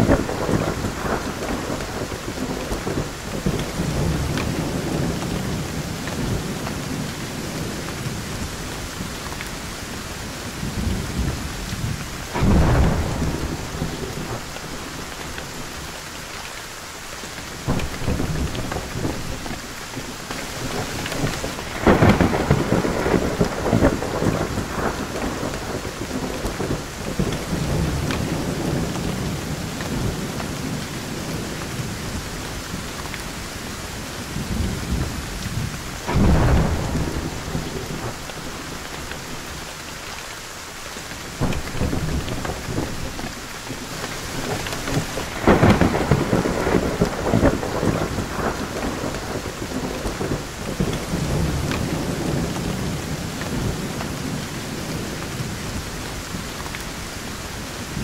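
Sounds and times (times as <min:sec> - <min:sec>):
rolling thunder: 0:00.0 - 0:09.4, 0:10.4 - 0:16.0, 0:20.5 - 0:39.7, 0:44.0 - 0:56.6
steady rain: 0:00.0 - 0:58.0.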